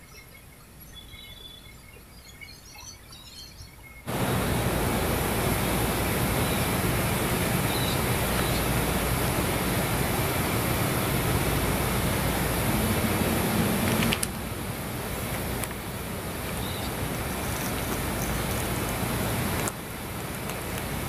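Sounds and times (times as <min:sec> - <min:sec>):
loud background noise: 0:04.1 - 0:21.0
low hum: 0:04.1 - 0:21.0.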